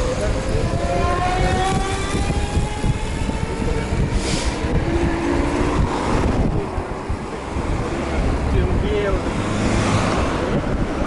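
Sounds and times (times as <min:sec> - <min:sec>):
passing motor vehicle: 0:00.0 - 0:11.0
wind rumbling on microphone: 0:00.0 - 0:11.0.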